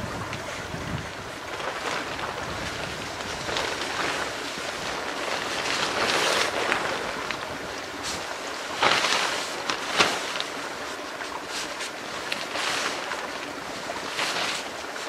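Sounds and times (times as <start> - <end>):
tarp fabric rustling: 0.0 - 15.0
footsteps crunching in snow: 1.3 - 15.0.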